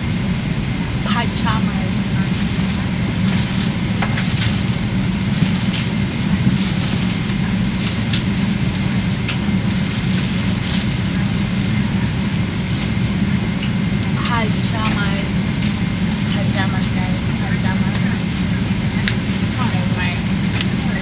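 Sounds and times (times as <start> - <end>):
airliner cabin drone: 0.0 - 21.0
packaging crinkling and rustling: 2.2 - 13.8, 14.4 - 20.0.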